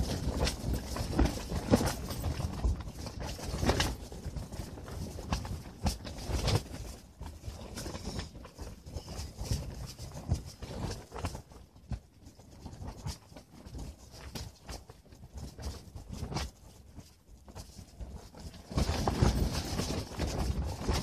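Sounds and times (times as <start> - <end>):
fabric flapping in wind: 0.0 - 21.0.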